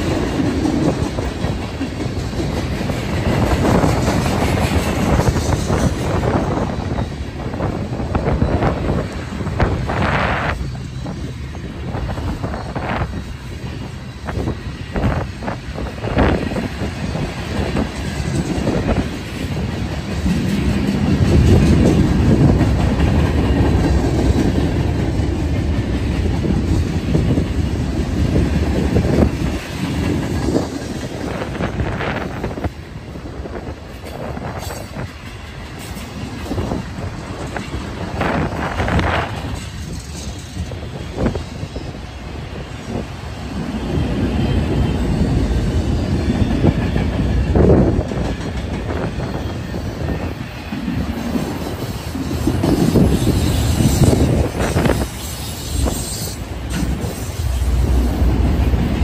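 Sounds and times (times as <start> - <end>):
freight train rumble: 0.0 - 59.0
train wheels clicking over rail joints: 0.0 - 59.0.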